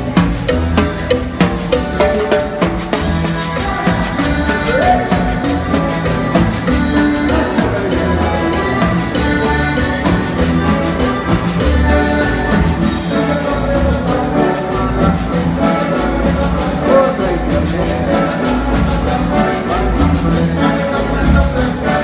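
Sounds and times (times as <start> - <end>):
live cumbia band playing: 0.0 - 22.0
saxophone: 0.0 - 22.0
steady percussion: 0.0 - 22.0.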